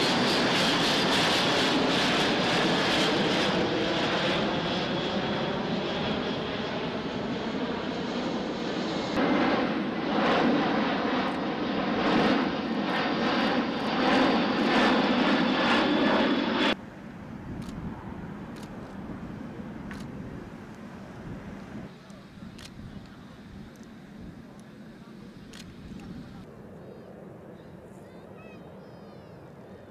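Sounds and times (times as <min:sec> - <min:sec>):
jet aircraft flying overhead: 0:00.0 - 0:29.9.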